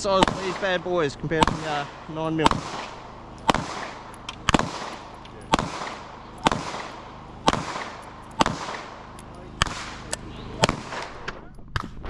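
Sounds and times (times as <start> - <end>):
revolver shots with ringing echo: 0.0 - 12.0.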